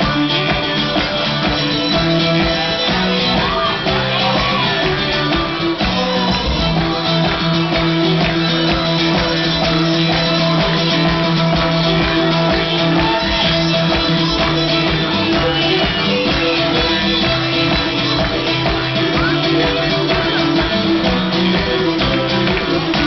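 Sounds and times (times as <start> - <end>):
bowed fiddle: 0.0 - 23.0
strummed guitar: 0.0 - 23.0.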